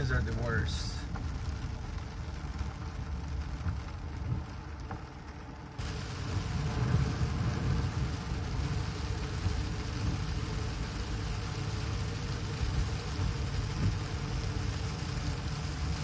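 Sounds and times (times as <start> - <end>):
car engine and tyre rumble: 0.0 - 16.0
rain and road water hiss: 0.0 - 16.0.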